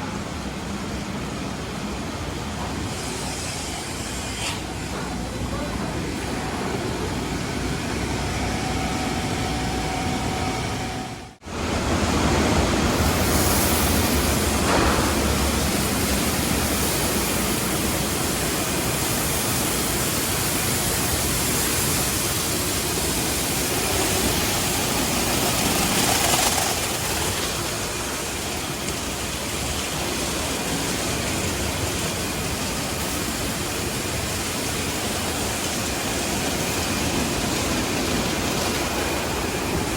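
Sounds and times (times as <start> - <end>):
car wash water spray and air rushing: 0.0 - 39.9.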